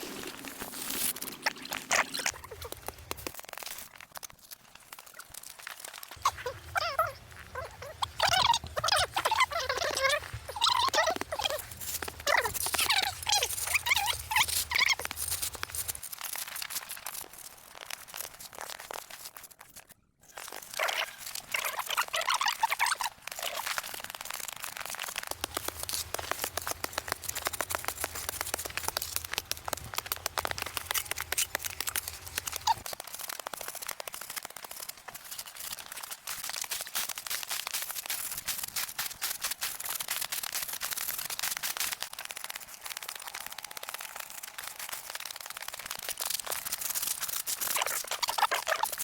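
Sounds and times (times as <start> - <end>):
crunching and rustling: 0.0 - 49.0.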